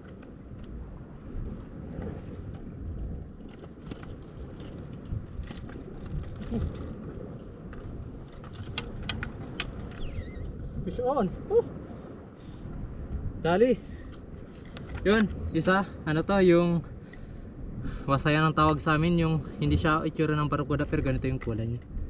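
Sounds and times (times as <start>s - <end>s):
wind and surf rumble: 0.0s - 22.0s.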